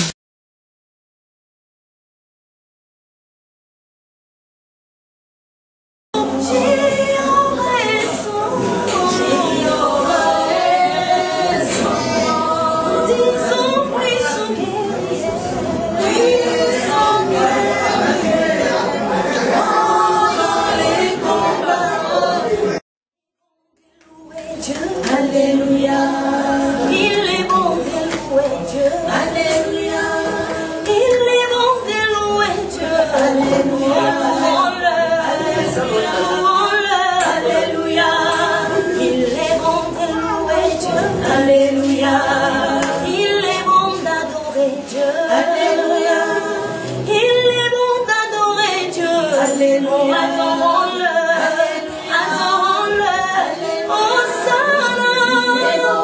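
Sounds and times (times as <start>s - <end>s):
women singing in harmony: 6.2s - 22.8s, 23.8s - 56.0s.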